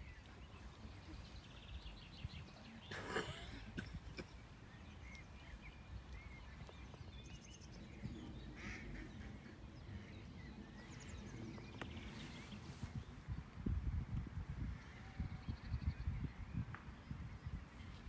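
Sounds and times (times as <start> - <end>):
wind rumble on microphone: 3.5 - 18.0.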